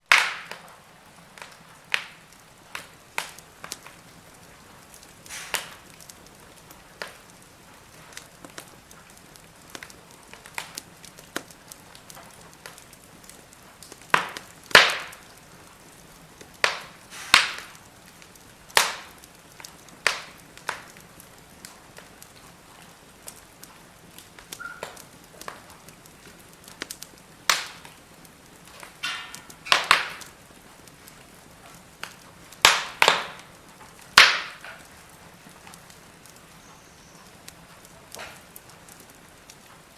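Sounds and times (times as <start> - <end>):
faint steady hiss: 0.0 - 39.9
firewood crackling and popping: 0.0 - 39.9.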